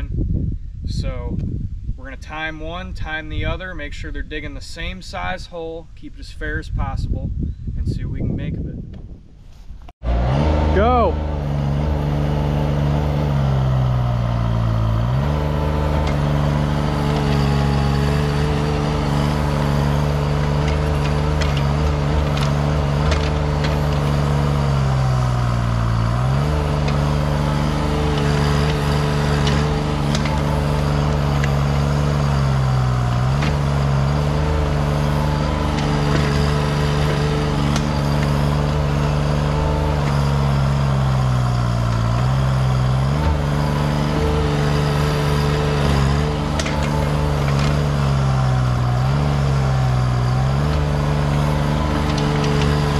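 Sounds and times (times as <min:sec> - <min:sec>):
excavator diesel engine straining: 0:10.0 - 0:52.9.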